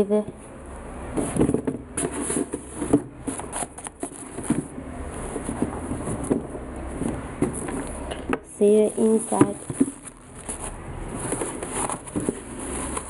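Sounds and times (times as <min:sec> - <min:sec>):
sneakers and boxes rustling: 0:00.3 - 0:13.0.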